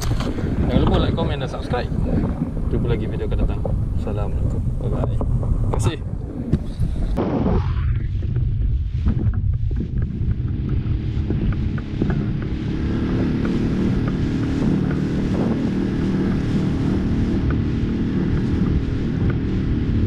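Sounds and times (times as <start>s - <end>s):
outboard motor running: 0.0s - 6.8s, 8.2s - 20.0s
water rushing past hull: 0.0s - 20.0s
wind buffeting microphone: 0.0s - 20.0s.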